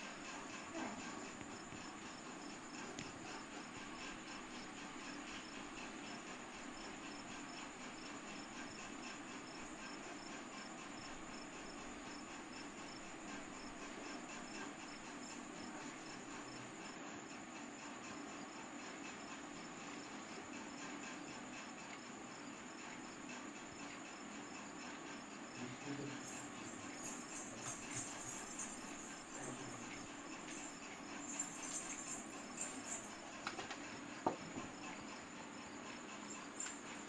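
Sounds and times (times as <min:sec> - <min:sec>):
faint background hum: 0:00.0 - 0:37.0
insects chirping: 0:00.0 - 0:37.0.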